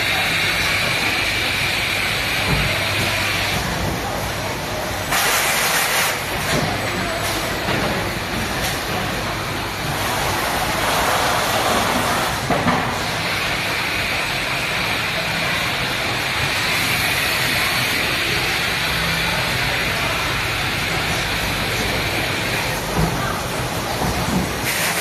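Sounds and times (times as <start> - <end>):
production-line machinery humming: 0.0 - 25.0.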